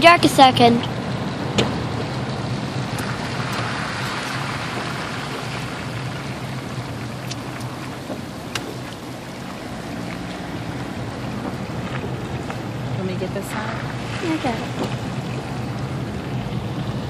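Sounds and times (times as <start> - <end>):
low engine hum: 0.0 - 17.0
tyres on road: 0.0 - 17.0.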